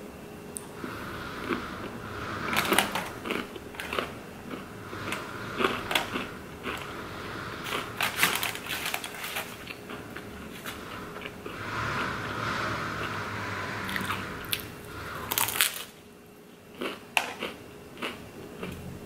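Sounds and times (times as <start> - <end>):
crunching and chewing pizza: 0.8 - 12.4, 13.9 - 19.0.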